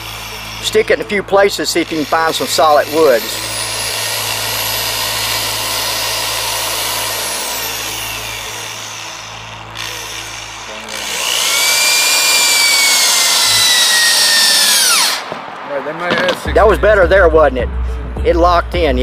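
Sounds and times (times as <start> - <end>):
power drill whining: 0.0 - 15.3.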